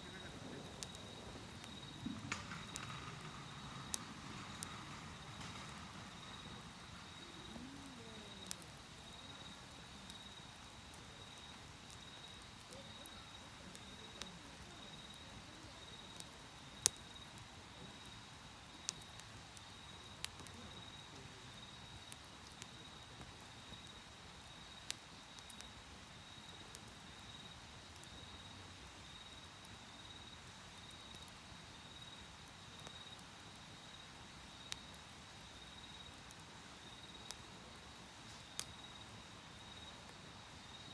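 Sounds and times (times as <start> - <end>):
fire popping: 0.0 - 40.9
insects chirping: 0.0 - 40.9
wood fire crackling: 0.0 - 40.9.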